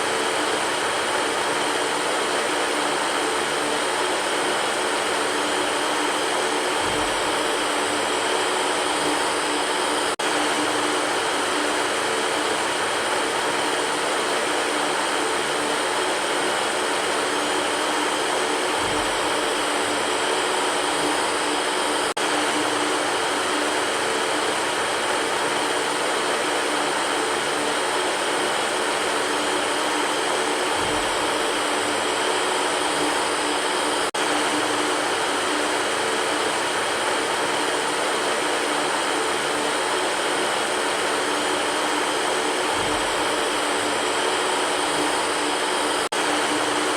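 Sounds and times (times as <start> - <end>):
electric fan humming: 0.0 - 46.9.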